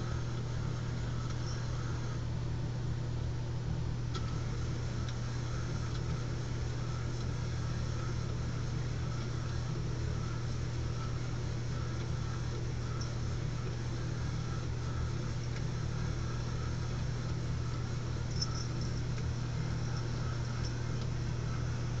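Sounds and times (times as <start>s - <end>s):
small electric motor humming: 0.0s - 2.8s, 4.1s - 22.0s
pulsing whir: 4.1s - 22.0s.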